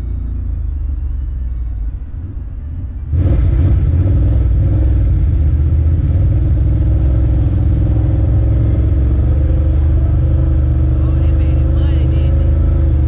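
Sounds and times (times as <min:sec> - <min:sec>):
atv engine humming: 0:00.0 - 0:13.0.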